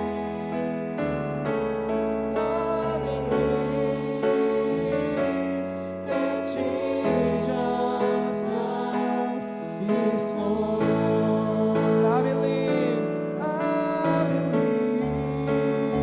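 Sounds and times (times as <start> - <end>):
worship song with sustained chords: 0.0 - 16.0.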